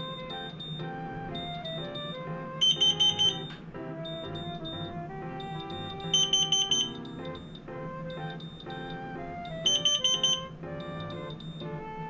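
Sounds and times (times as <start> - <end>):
background music: 0.0 - 12.0
alarm beeping rapidly: 0.3 - 4.9, 5.6 - 8.9, 9.6 - 11.6.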